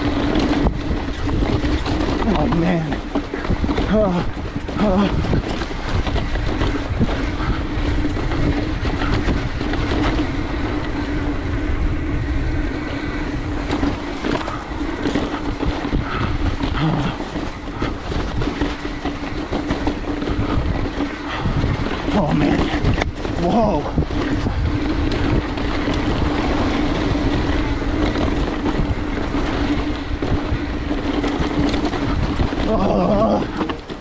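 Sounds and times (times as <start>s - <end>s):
bike rumbling and rattling: 0.0s - 34.0s
steady humming tone: 0.0s - 34.0s.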